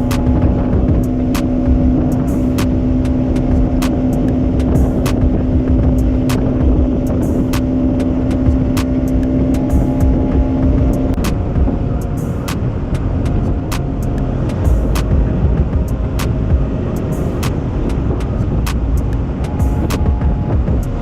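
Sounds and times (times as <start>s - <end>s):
heavy wind noise: 0.0s - 21.0s
motorcycle engine running: 0.0s - 21.0s.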